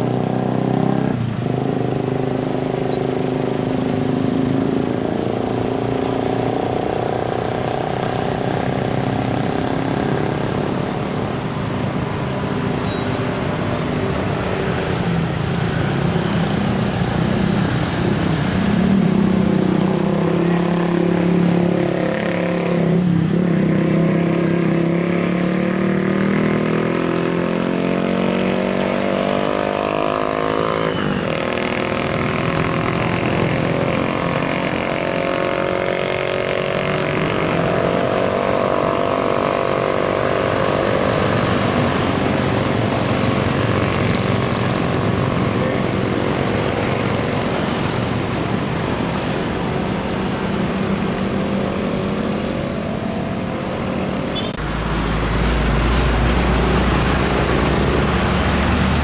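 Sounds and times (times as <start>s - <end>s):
car engines passing: 0.0s - 59.0s
motorcycles: 0.0s - 59.0s.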